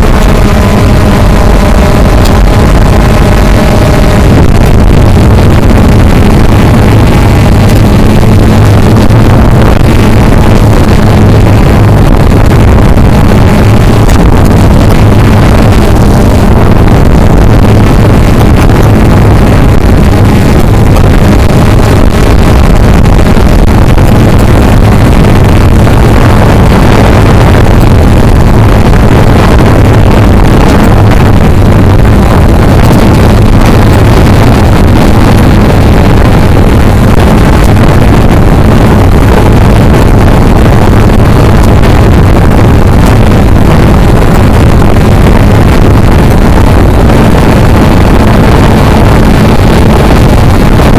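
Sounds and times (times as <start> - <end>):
drone motors humming: 0.0 - 50.9.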